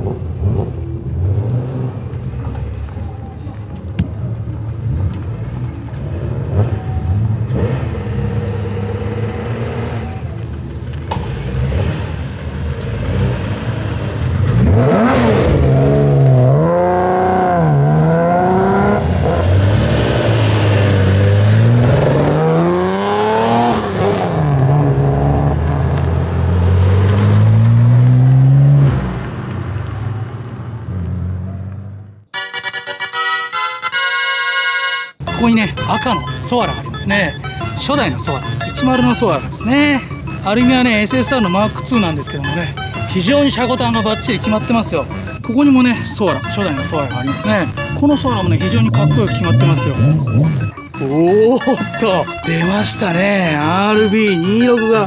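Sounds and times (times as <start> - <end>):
car engine revving: 4.7 - 32.2, 35.8 - 55.0.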